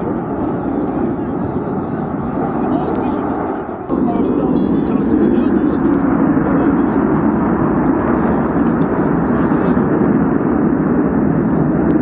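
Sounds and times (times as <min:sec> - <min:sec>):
gas fire rushing roar: 0:00.0 - 0:12.0.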